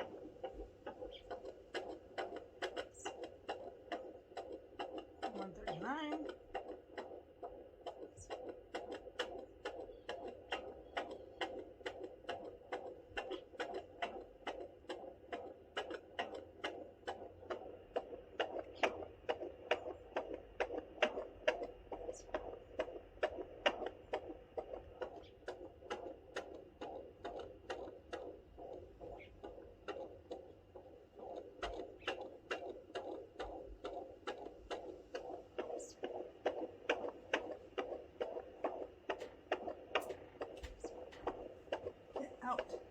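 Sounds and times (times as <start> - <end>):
fetal heartbeat whooshing pulses: 0.0 - 42.9.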